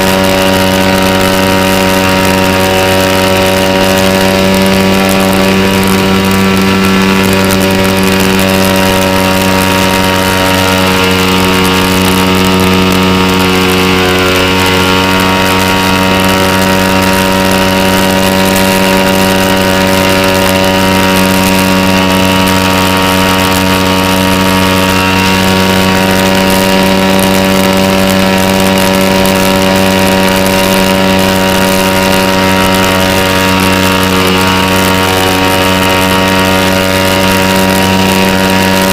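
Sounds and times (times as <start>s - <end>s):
model airplane engine running: 0.0s - 38.9s.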